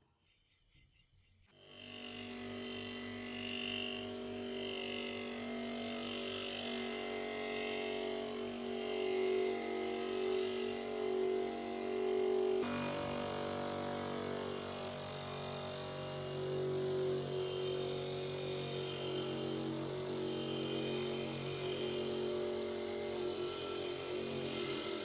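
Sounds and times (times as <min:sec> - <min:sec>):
electric power tool motor: 0:01.5 - 0:25.0.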